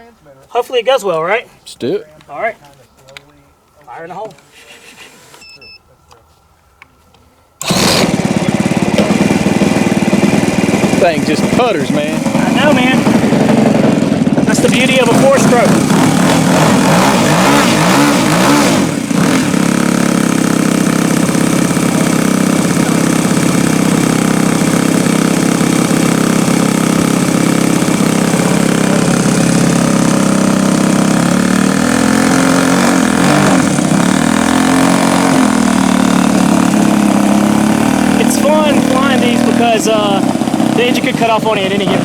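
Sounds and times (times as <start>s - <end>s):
model airplane engine puttering: 7.6s - 42.0s.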